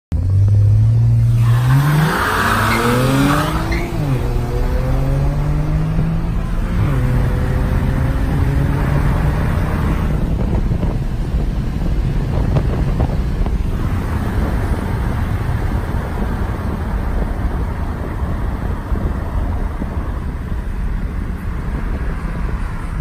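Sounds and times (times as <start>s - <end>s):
car engine revving with gear shifts: 0.1s - 23.0s.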